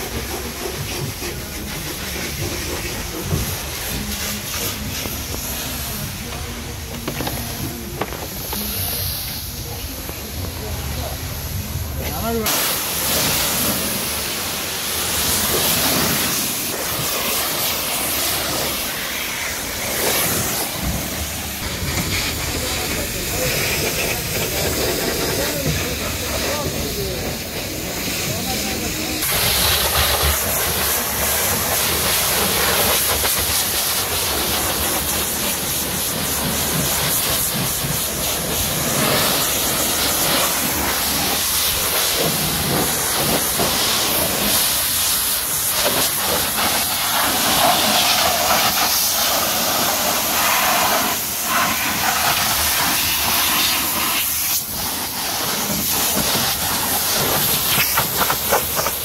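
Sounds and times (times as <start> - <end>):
pressure washer spraying water: 0.0 - 59.0.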